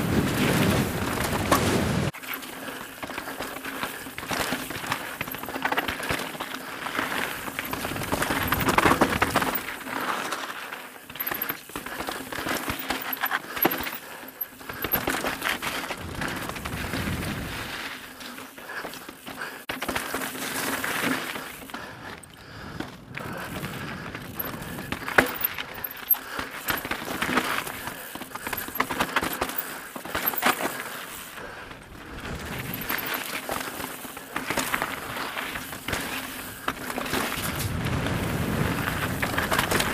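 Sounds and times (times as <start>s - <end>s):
bike tyres crunching over stones: 0.0s - 39.9s
bike chain and frame rattling: 0.2s - 39.9s.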